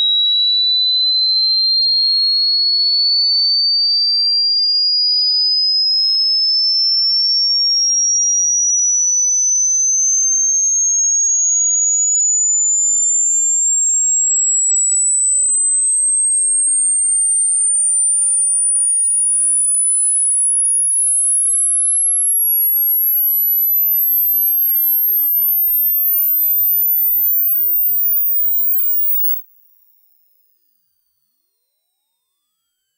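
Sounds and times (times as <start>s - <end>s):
rising high-pitched sine tone: 0.0s - 29.4s.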